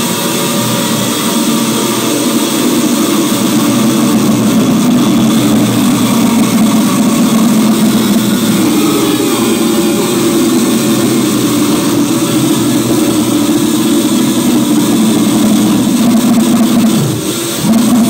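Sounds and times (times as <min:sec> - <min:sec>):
electronic noise music: 0:00.0 - 0:18.0
low droning hum: 0:00.0 - 0:18.0.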